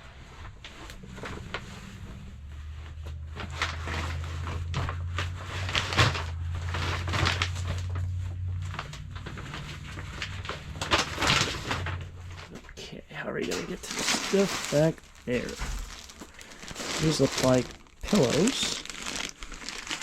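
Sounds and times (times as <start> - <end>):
low steady hum: 0.0 - 20.0
items rustling and knocking: 0.4 - 12.8, 13.4 - 20.0.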